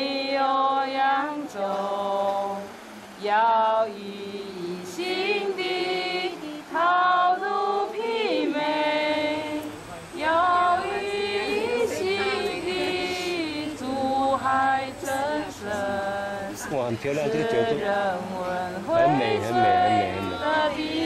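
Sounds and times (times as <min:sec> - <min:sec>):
women singing devotional song: 0:00.0 - 0:21.0.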